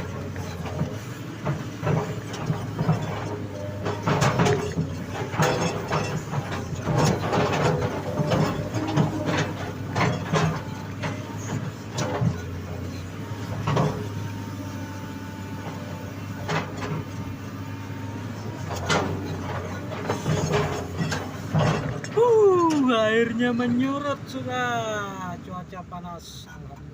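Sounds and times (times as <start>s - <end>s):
machine knocks and clanks: 0.0s - 22.2s
excavator diesel engine running: 0.0s - 26.9s.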